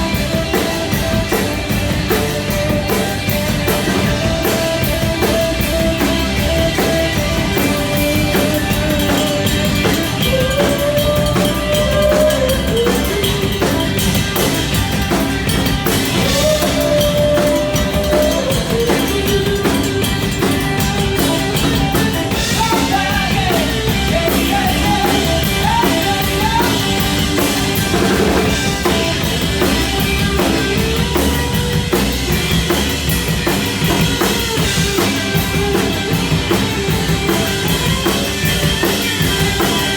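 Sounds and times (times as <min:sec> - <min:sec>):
bending lead guitar melody: 0:00.0 - 0:39.9
drum kit: 0:00.0 - 0:39.9
rock band playing: 0:00.0 - 0:39.9.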